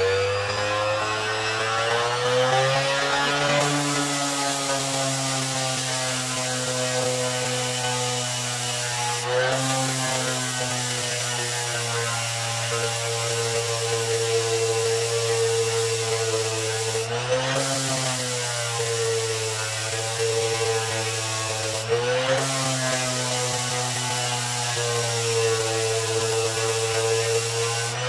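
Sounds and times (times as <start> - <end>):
orbit sander running: 0.0 - 28.0.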